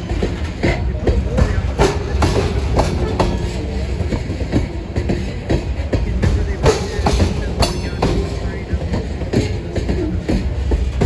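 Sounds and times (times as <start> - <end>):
low train rumble: 0.0 - 11.0
train wheels clacking on rails: 0.0 - 11.0.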